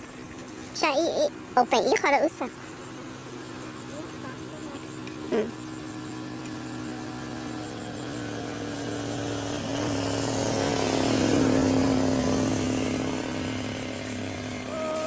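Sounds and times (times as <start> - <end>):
vehicle engine passing by: 2.5 - 15.0.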